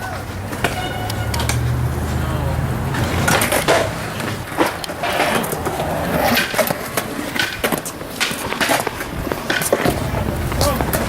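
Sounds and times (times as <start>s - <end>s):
skateboard clicks: 0.0s - 2.2s, 2.8s - 11.0s
skateboard wheels rolling on pavement: 0.0s - 11.0s.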